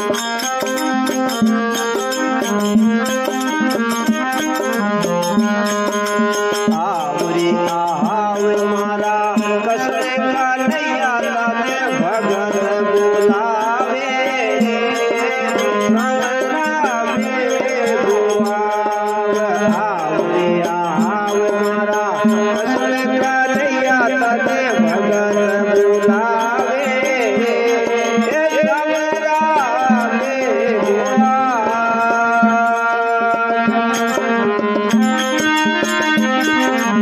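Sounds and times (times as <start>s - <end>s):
hand drum percussion: 0.0s - 37.0s.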